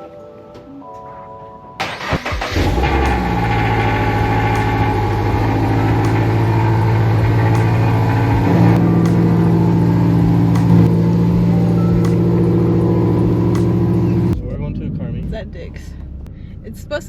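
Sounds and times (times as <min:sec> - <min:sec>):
car engine running: 0:01.8 - 0:17.0.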